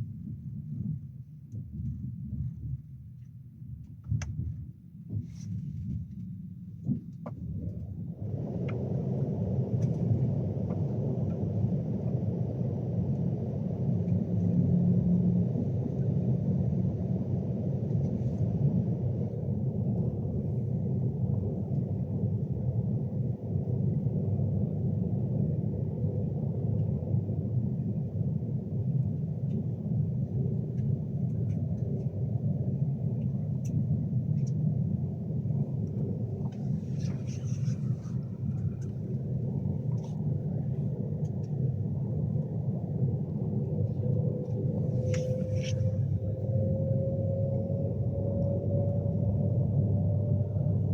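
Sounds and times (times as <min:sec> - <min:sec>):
electric train rumble: 0:06.0 - 0:50.9.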